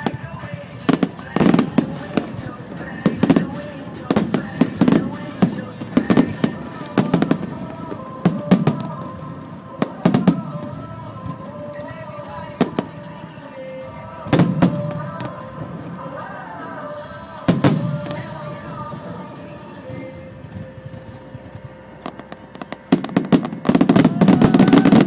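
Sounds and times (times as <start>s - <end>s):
fireworks bursting with echo: 0.0s - 25.0s
music: 0.0s - 25.0s.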